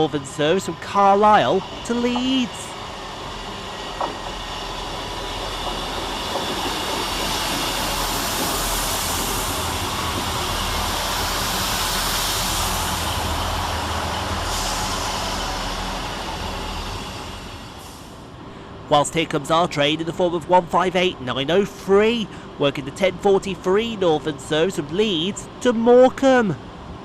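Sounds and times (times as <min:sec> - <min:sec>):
diesel train engine drone: 0:00.0 - 0:27.0.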